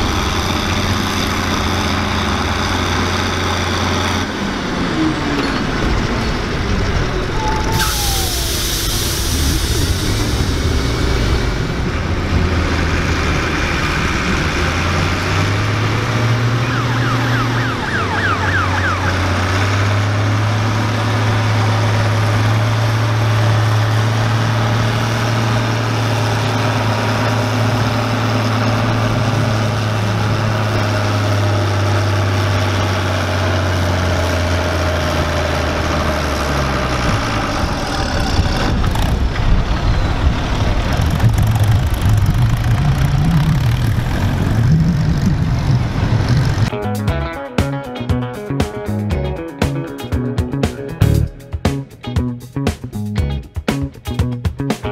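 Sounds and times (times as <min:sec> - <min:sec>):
tractor engine under heavy load: 0:00.0 - 0:46.8.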